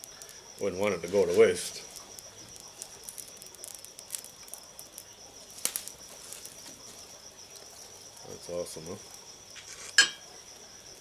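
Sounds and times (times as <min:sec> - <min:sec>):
campfire crackling and popping: 0:00.0 - 0:11.0
high-pitched insect drone: 0:00.0 - 0:11.0.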